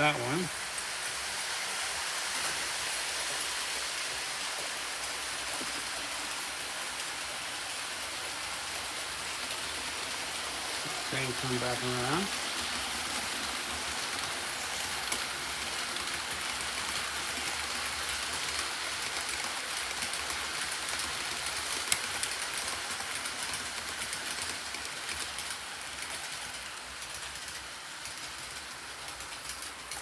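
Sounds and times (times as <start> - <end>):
model train wheels and motor: 0.0 - 30.0.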